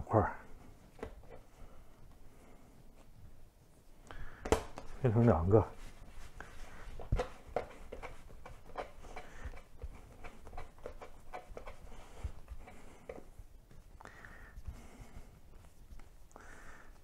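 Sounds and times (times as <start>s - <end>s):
dough patted and rubbed on wood: 3.0s - 17.0s.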